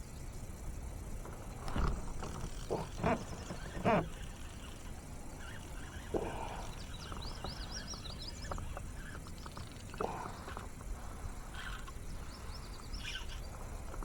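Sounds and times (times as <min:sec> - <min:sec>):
small bird chirping: 0:02.5 - 0:14.0.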